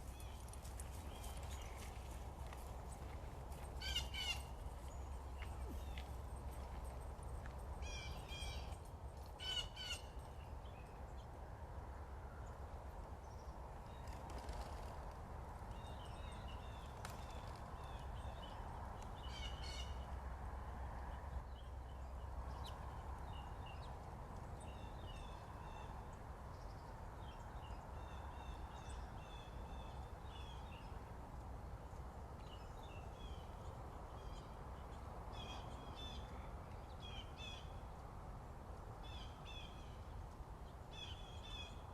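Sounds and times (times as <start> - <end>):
low background noise: 0.0 - 41.9.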